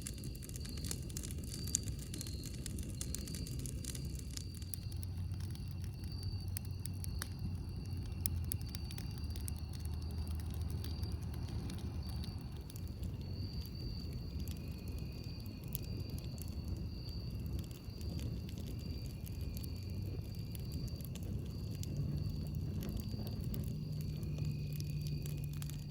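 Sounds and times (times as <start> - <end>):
campfire crackling and popping: 0.0 - 25.9.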